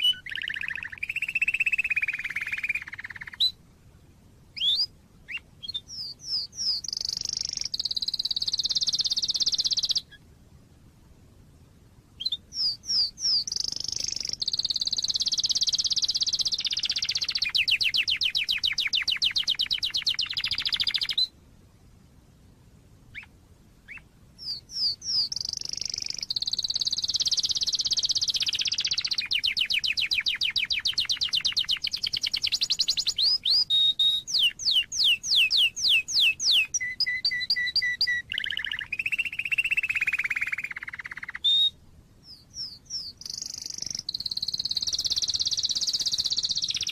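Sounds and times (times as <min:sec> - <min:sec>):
canary singing trills: 0:00.0 - 0:03.6, 0:04.6 - 0:10.2, 0:12.2 - 0:21.4, 0:23.1 - 0:46.9.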